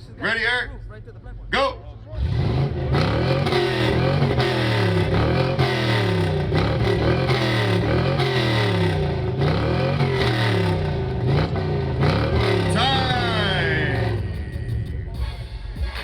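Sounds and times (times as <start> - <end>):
car engine revving: 0.0 - 15.3.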